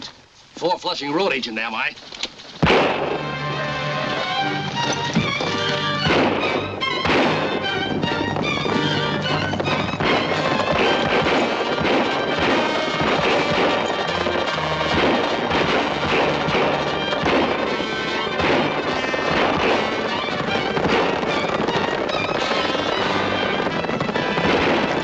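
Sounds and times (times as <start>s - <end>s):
gunshots: 2.6s - 3.4s, 5.1s - 25.0s
dramatic orchestral music: 2.7s - 25.0s.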